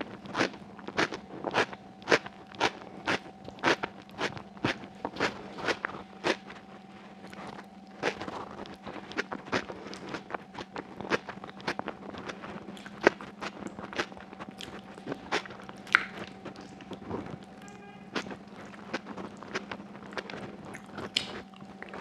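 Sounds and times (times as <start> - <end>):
wet eating and chewing: 0.0 - 22.0.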